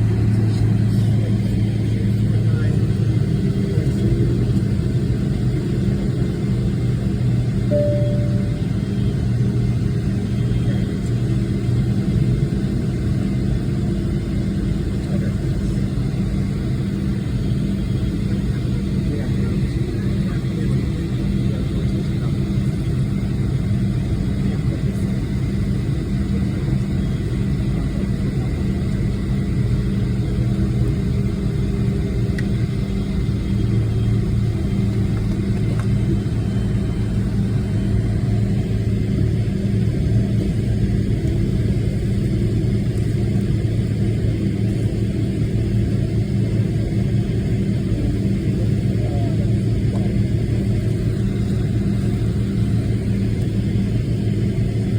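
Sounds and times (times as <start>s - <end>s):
jet engines rumbling in cabin: 0.0s - 54.9s.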